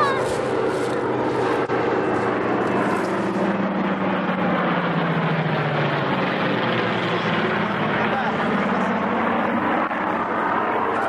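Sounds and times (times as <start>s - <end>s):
propeller aircraft engines droning: 0.0s - 11.0s.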